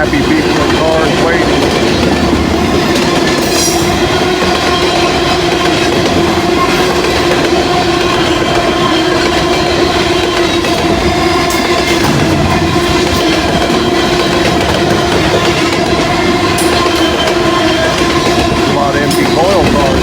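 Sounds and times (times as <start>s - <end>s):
freight train cars clattering on rails: 0.0s - 20.0s.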